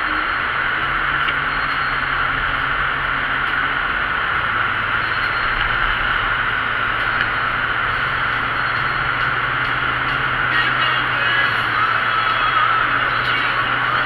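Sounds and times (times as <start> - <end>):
low steady hum: 0.0 - 14.0
vehicle road noise: 0.0 - 14.0.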